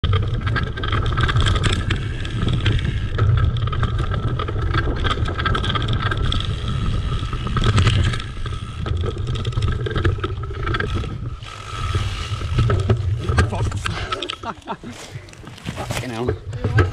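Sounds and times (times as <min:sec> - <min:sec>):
bike rattling and clicking: 0:00.0 - 0:16.9
bike tyre noise: 0:00.0 - 0:16.9.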